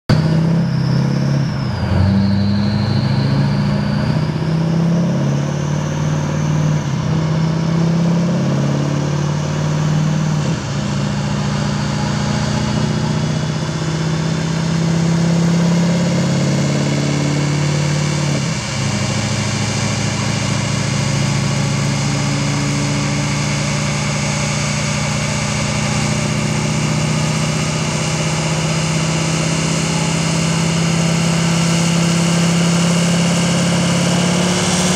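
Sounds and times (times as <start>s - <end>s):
diesel engine running: 0.1s - 34.9s
high whine: 0.1s - 34.9s.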